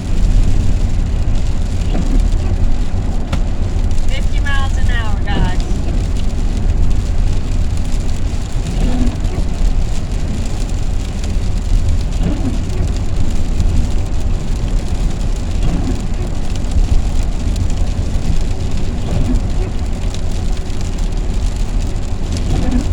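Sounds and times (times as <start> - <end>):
low vehicle rumble: 0.0 - 22.9
rain on vehicle roof: 0.0 - 22.9.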